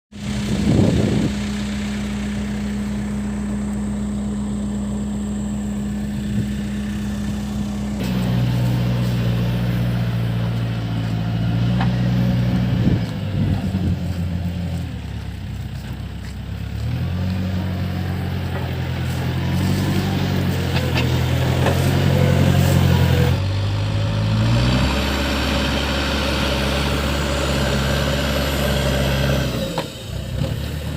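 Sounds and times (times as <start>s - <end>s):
diesel engine running under load: 0.1s - 30.9s.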